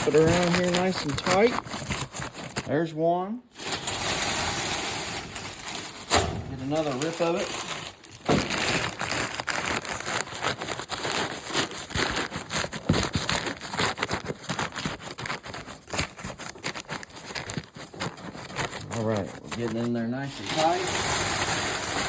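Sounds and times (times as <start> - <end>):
packing paper crinkling: 0.0 - 2.9, 3.5 - 22.0.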